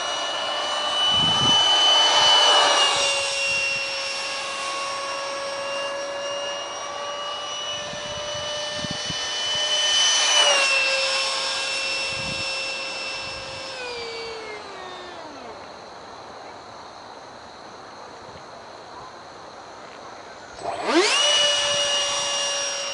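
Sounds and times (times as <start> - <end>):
electric ducted fan whining: 0.0 - 22.9.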